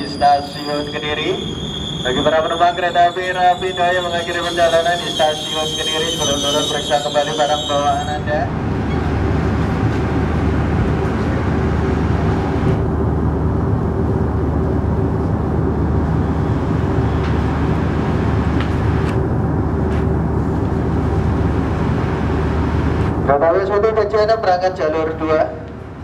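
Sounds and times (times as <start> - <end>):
diesel train engines idling: 0.0 - 26.0.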